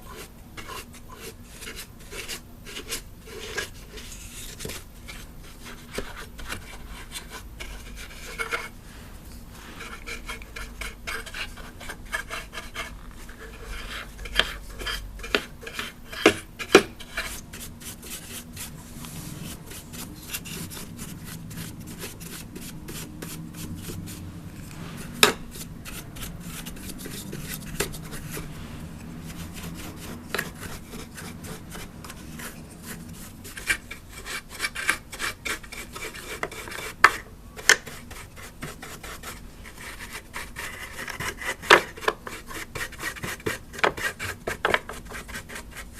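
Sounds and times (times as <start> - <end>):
brush sweeping over plastic: 0.0 - 45.9.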